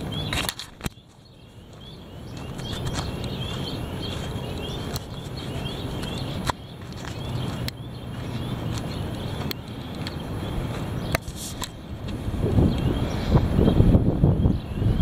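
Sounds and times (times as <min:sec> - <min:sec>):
heavy wind on microphone: 0:00.0 - 0:15.0.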